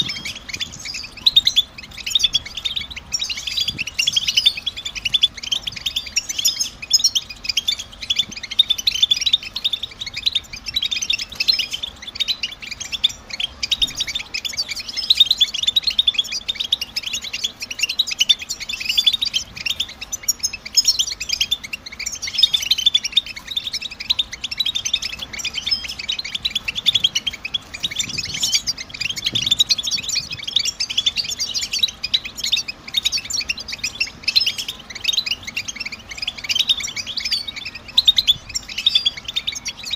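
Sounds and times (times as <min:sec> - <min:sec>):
goldfinches chattering and twittering: 0:00.0 - 0:39.9.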